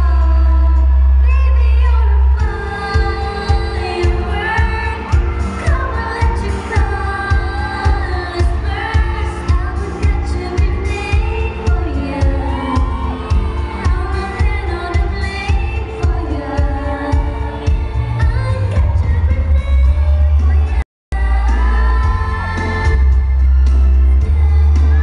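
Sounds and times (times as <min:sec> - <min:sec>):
backing music with bass beat: 0:00.0 - 0:25.0
woman singing pop song: 0:00.0 - 0:25.0.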